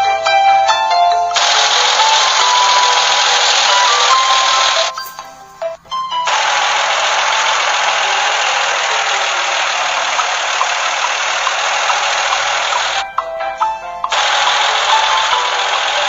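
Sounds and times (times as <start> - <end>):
music: 0.0 - 16.0
truck engine running: 1.4 - 13.0, 14.1 - 16.0.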